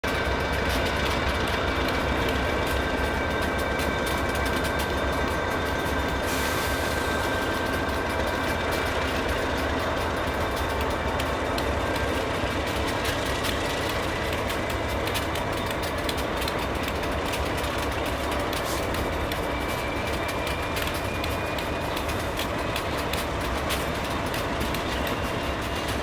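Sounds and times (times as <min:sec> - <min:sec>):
diesel locomotive engine rumble: 0:00.0 - 0:26.0
train wheels clicking on rails: 0:00.0 - 0:26.0.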